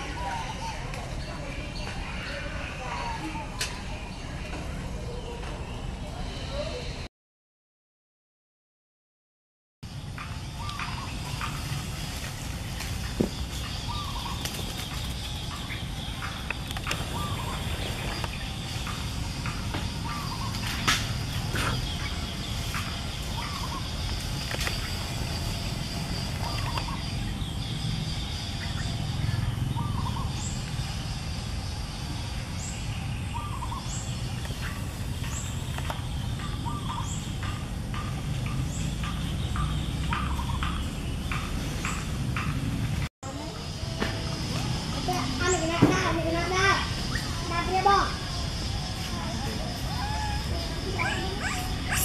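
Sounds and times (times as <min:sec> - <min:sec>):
outdoor background: 0:00.0 - 0:07.1, 0:09.8 - 0:52.0
small birds chirping: 0:00.0 - 0:07.1, 0:09.9 - 0:52.0.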